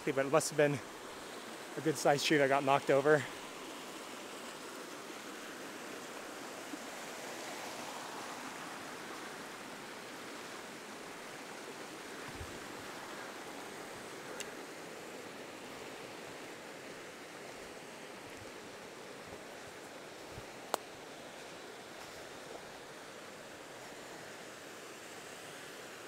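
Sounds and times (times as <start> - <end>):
mountain stream rushing water: 0.0 - 26.0.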